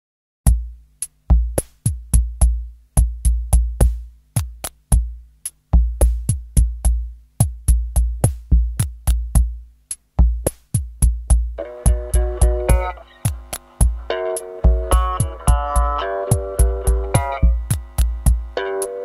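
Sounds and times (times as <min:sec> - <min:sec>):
drum-machine beat: 0:00.5 - 0:19.0.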